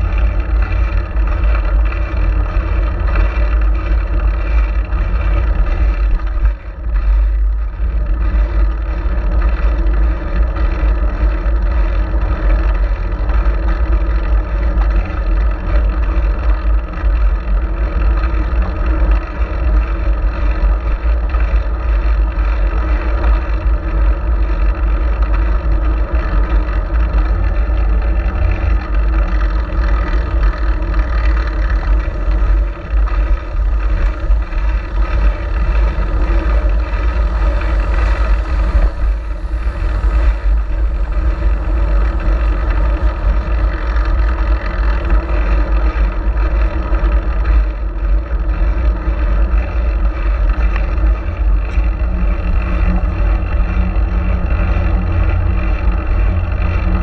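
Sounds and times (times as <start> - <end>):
road and tyre noise: 0.0 - 57.0
wind rushing over microphone: 0.0 - 57.0.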